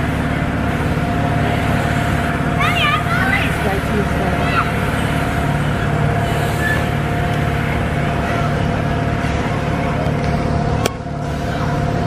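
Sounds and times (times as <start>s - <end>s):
low rumble: 0.0s - 12.0s
steady machine hum: 0.0s - 12.0s.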